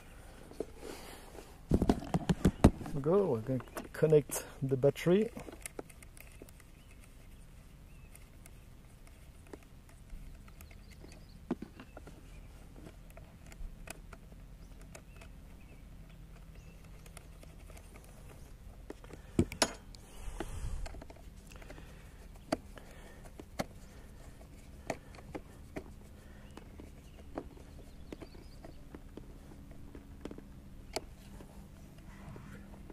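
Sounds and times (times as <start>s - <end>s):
small clicks and taps of handling: 1.9s - 32.1s.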